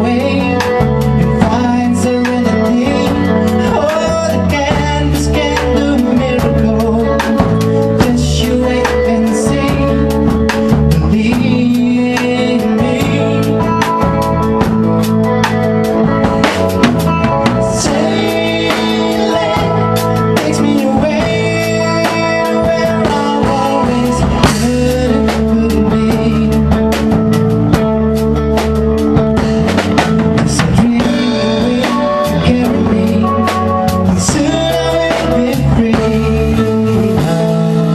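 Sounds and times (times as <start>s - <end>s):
man singing into microphone: 0.0s - 14.1s, 16.1s - 27.2s, 30.4s - 37.9s
bass guitar: 0.0s - 37.9s
drum kit beat: 0.0s - 37.9s
electric guitar: 0.0s - 37.9s.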